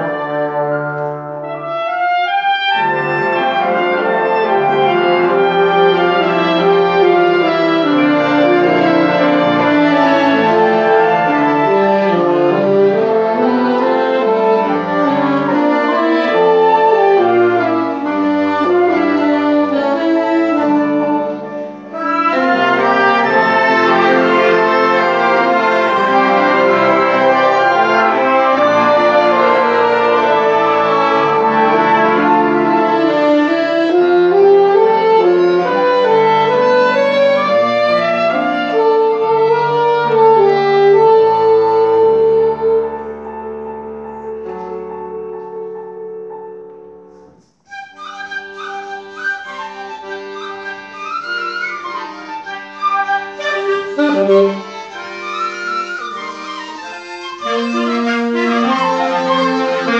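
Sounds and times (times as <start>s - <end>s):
wind ensemble playing: 0.0s - 46.3s, 47.7s - 59.9s.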